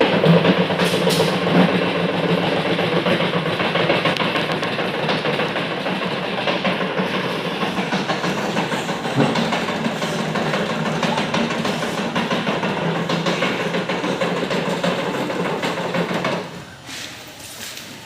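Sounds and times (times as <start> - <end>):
earthquake rumble with rattling: 0.0 - 16.5.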